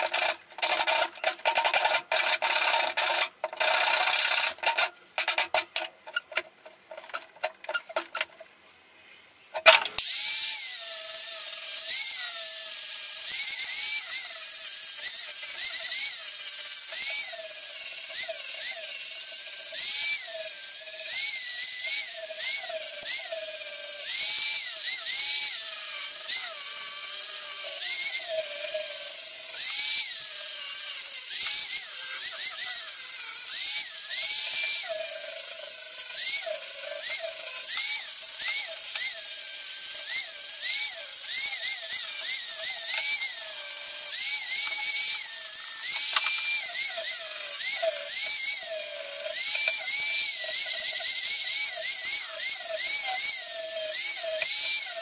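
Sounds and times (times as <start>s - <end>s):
angle grinder sanding wood: 9.5s - 55.0s.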